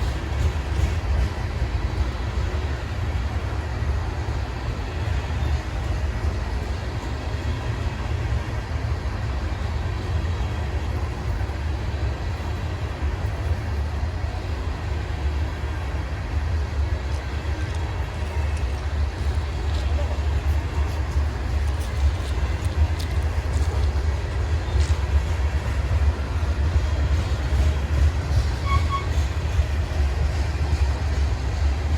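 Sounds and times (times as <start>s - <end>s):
freight train rumbling past: 0.0s - 31.9s.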